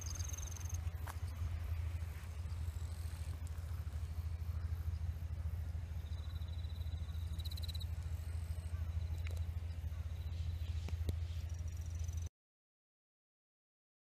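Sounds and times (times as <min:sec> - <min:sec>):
insects trilling: 0:00.0 - 0:12.3
steady low rumble: 0:00.0 - 0:12.3.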